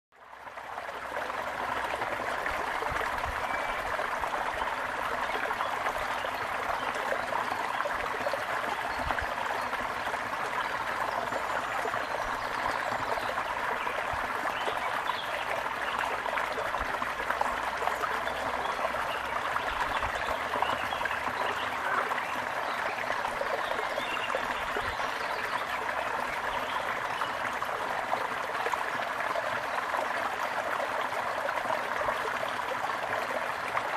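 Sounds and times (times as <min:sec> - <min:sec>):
running water flowing: 0:00.2 - 0:33.9.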